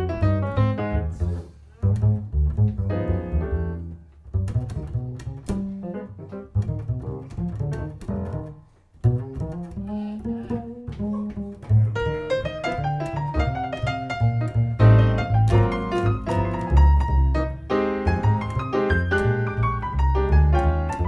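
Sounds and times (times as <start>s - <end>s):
double bass plucked notes: 0.0s - 21.0s.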